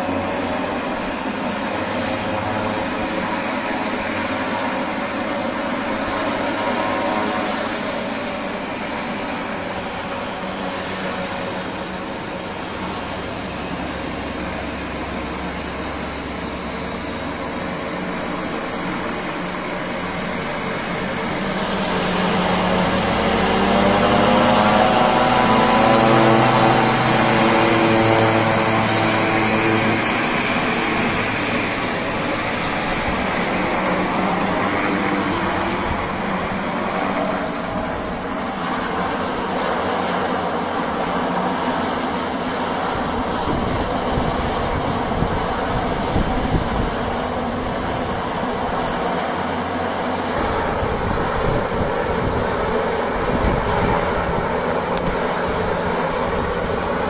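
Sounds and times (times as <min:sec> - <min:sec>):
turboprop engines running: 0:00.0 - 0:57.0.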